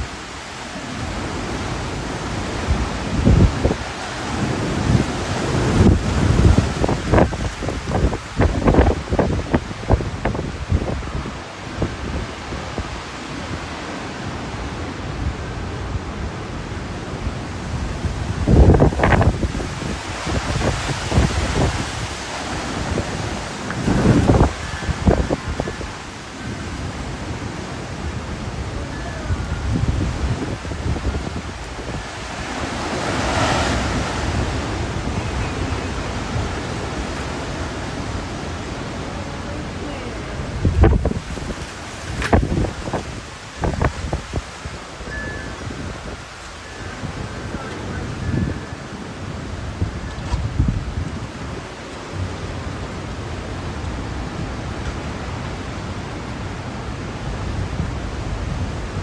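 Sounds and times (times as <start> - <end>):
rain: 0.0 - 59.0
wind buffeting microphone: 1.0 - 13.8, 14.4 - 59.0
strong wind rushing: 1.0 - 59.0.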